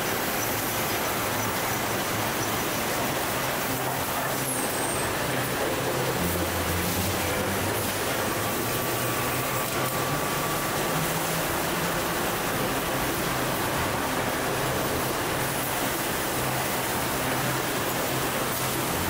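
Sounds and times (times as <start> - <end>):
carton sealing machinery: 0.0 - 19.0
roller conveyors running: 0.0 - 19.0.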